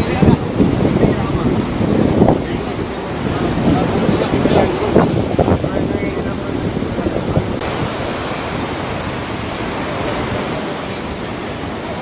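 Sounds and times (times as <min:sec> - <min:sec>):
surf on sandy beach: 0:00.0 - 0:12.0
wind on microphone: 0:00.0 - 0:12.0.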